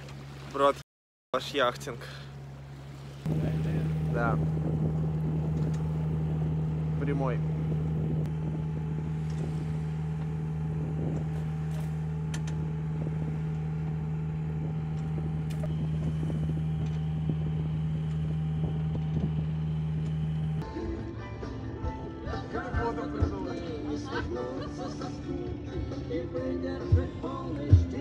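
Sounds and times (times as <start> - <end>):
boat engine droning: 0.0 - 0.8, 1.4 - 28.0.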